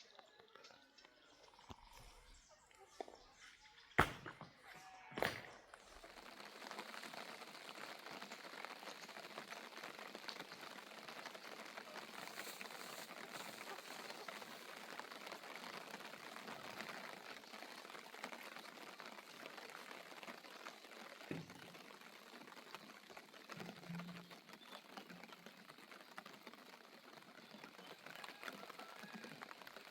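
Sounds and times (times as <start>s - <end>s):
rain pattering: 0.0s - 29.9s.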